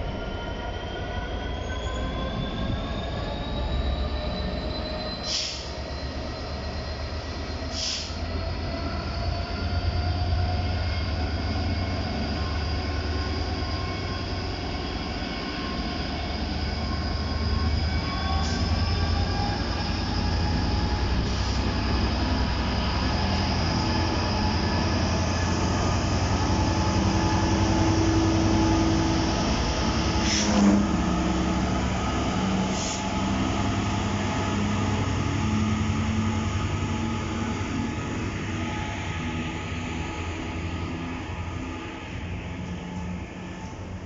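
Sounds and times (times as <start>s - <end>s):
diesel locomotive rumbling: 0.0s - 44.0s.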